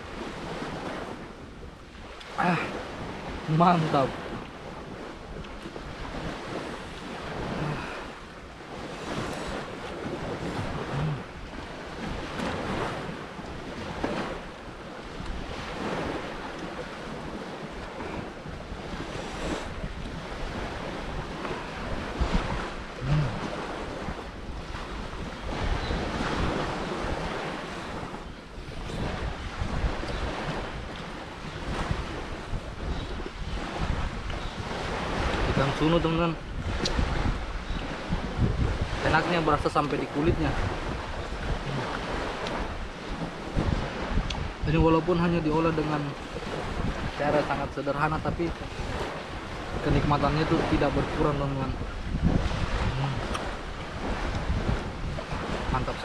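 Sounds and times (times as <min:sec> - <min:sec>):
surf washing on a beach: 0:00.0 - 0:56.0
wind on microphone: 0:00.0 - 0:56.0.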